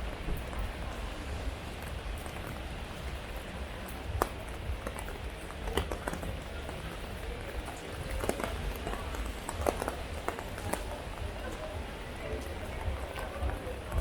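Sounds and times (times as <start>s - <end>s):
heavy rain: 0.0s - 14.0s
raindrops tapping close by: 0.0s - 14.0s.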